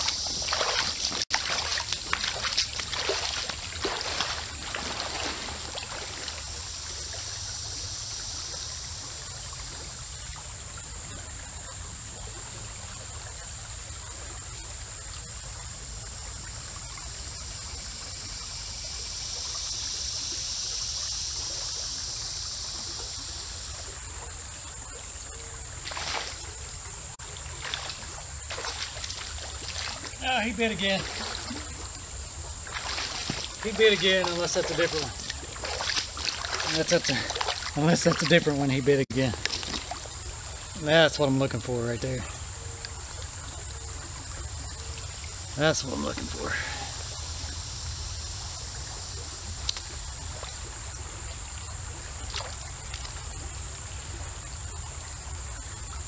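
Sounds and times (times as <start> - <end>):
wading splashes in water: 0.0 - 19.9, 21.7 - 47.8, 48.4 - 56.0
creek water trickling: 0.0 - 56.0.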